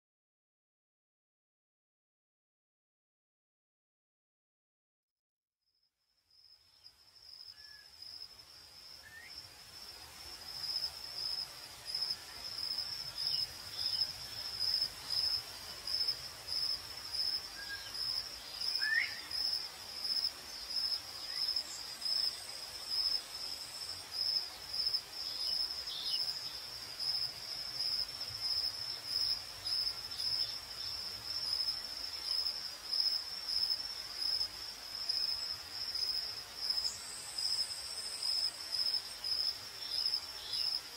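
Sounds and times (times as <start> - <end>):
crickets chirping: 6.0 - 40.9.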